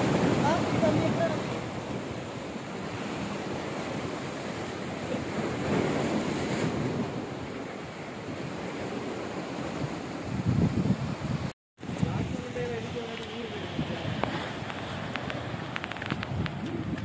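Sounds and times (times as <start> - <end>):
sea surf washing: 0.0 - 17.0
wind on microphone: 0.0 - 17.0.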